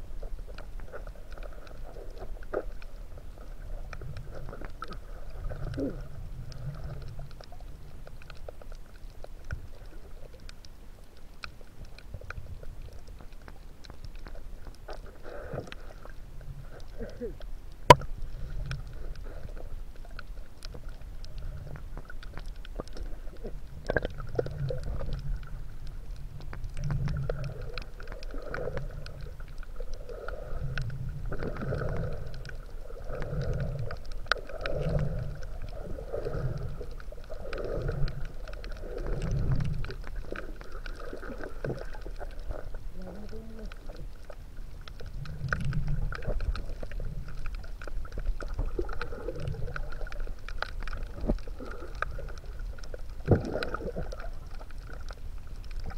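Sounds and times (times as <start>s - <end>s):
underwater swishing water: 0.0s - 55.9s
faint clicks: 0.2s - 55.9s.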